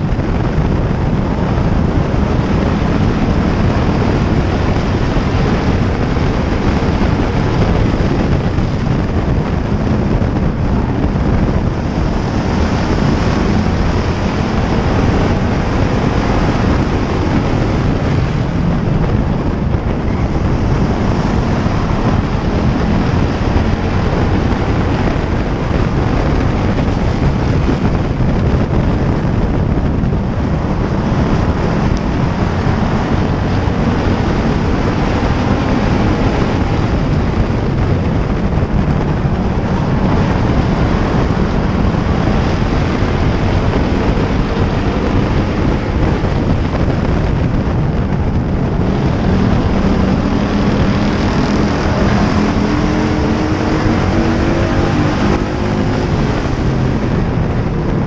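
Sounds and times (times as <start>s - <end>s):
race car engine running hard: 0.0s - 58.0s
wind buffeting microphone: 0.0s - 58.0s.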